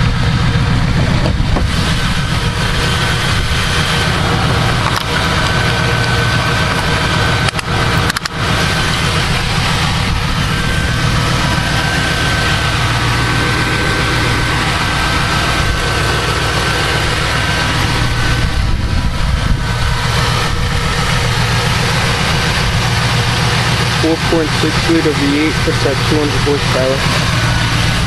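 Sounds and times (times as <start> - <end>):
car engine idling: 0.0 - 28.0
thin steady whine: 0.0 - 28.0.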